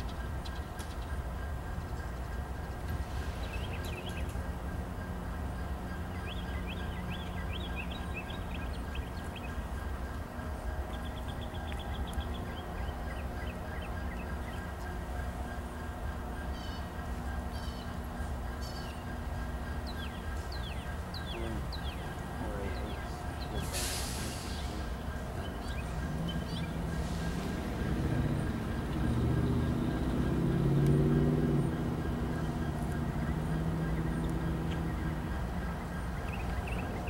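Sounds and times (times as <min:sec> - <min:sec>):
distant diesel locomotive idling: 0:00.0 - 0:37.0
small birds chirping: 0:05.6 - 0:15.8, 0:16.5 - 0:37.0.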